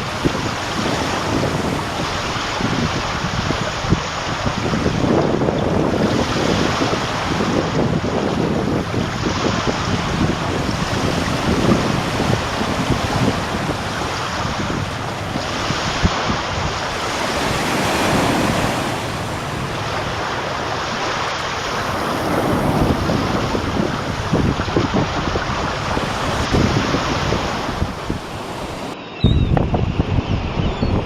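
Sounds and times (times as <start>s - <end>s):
surf washing in: 0.0s - 29.0s
wind buffeting microphone: 0.0s - 31.0s.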